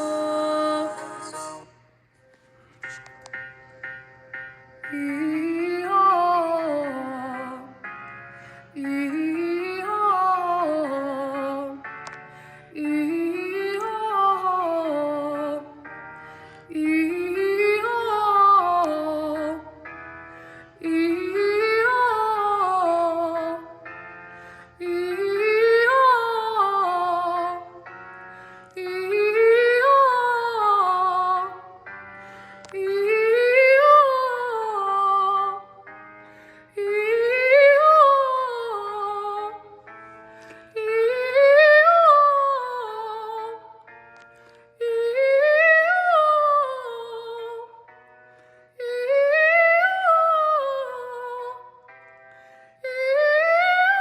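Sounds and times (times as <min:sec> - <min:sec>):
held backing chords: 0:00.0 - 0:54.0.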